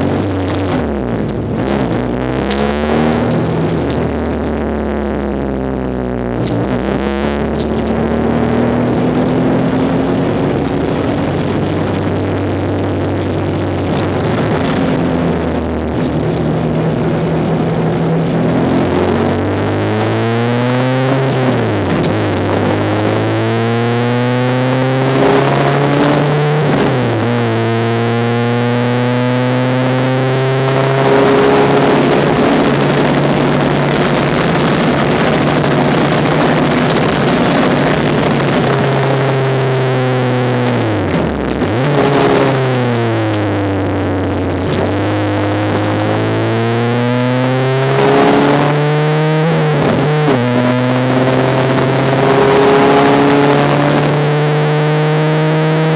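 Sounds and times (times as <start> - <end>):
race car engine accelerating: 0.0 - 55.9.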